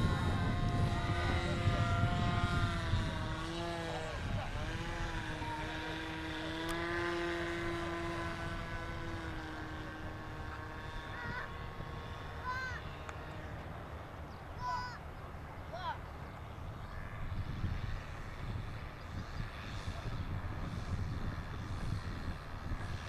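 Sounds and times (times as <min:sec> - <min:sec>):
model airplane engine in flight: 0:00.0 - 0:23.0.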